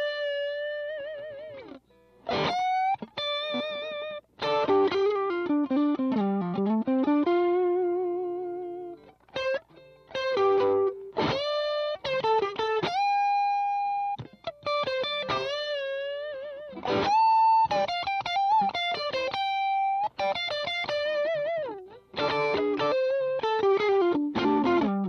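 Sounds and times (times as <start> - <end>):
overdriven electric guitar lead: 0.0 - 25.0.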